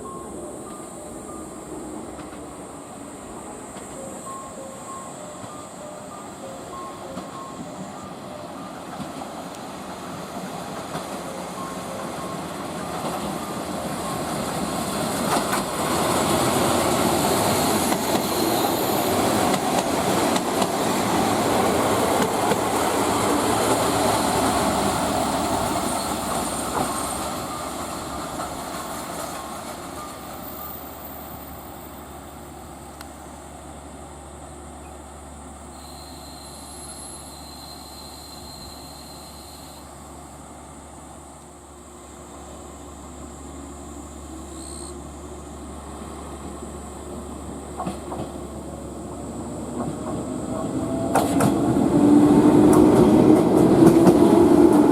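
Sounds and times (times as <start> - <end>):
train passing on rails: 0.0 - 54.9.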